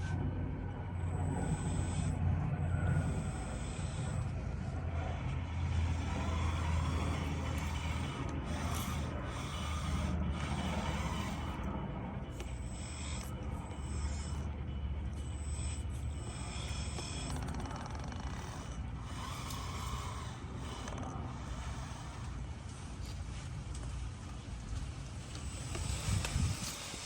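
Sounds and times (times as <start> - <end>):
low hum of electric motors: 0.0 - 27.0.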